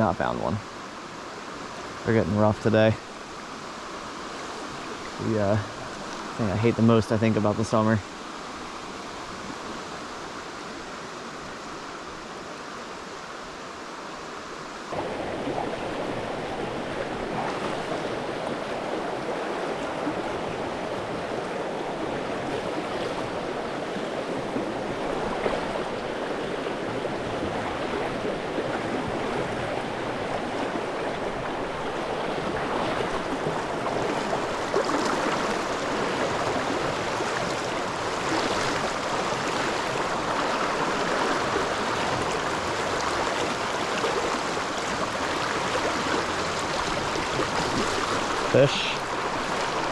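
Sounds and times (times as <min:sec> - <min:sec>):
stream flowing: 0:00.0 - 0:49.9.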